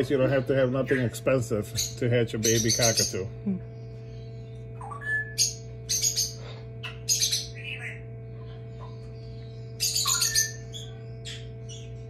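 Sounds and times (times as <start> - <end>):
incubator humming: 0.0 - 12.0.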